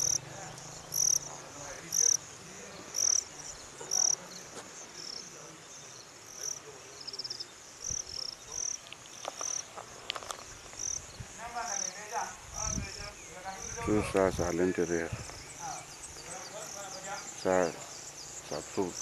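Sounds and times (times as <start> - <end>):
insects chirping: 0.0 - 19.0
rapid insect trill: 0.0 - 19.0.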